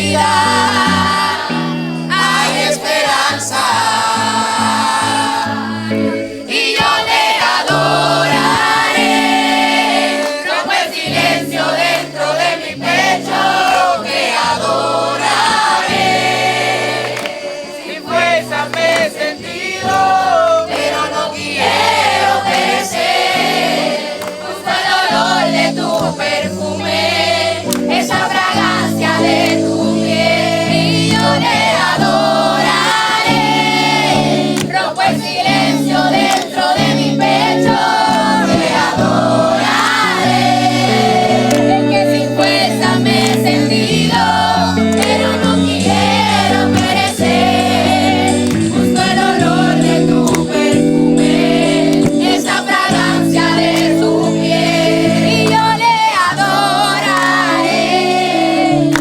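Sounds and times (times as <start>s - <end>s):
instrumental held chords: 0.0s - 59.0s
voices singing worship song: 0.0s - 59.0s.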